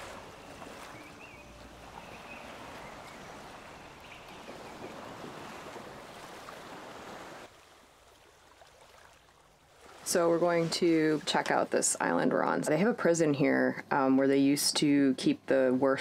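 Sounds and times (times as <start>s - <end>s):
water noise: 0.0s - 16.0s
wind: 0.0s - 16.0s.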